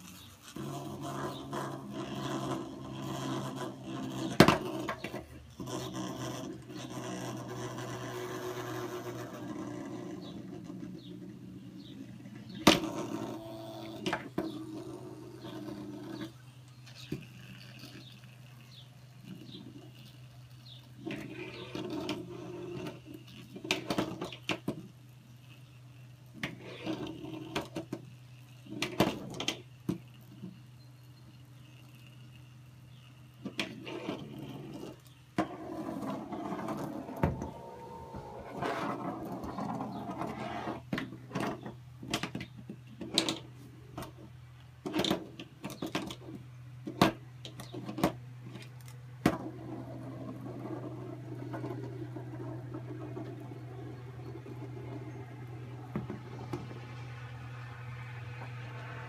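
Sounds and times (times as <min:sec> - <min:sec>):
spinning top scraping on wood: 0:00.0 - 0:59.0.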